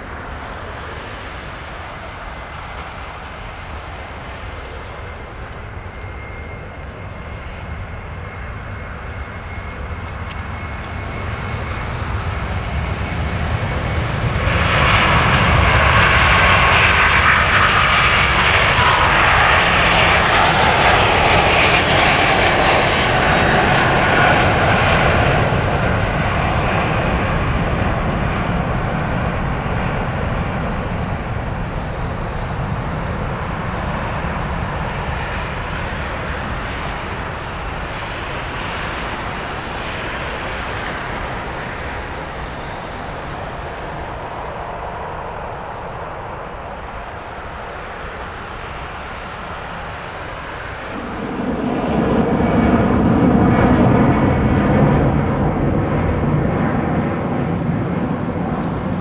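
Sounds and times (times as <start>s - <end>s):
jet airliner engines passing: 0.0s - 59.0s.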